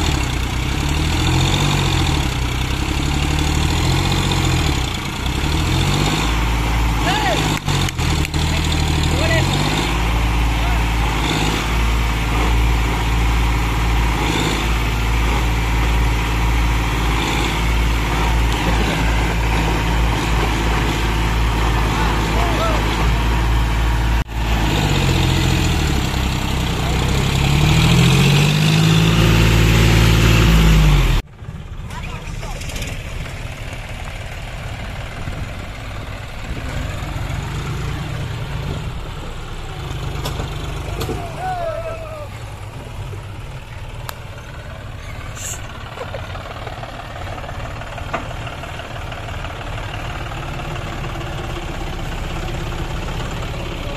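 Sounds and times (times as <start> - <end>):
backhoe loader engine: 0.0 - 53.9
tractor diesel engine under load: 0.0 - 53.9.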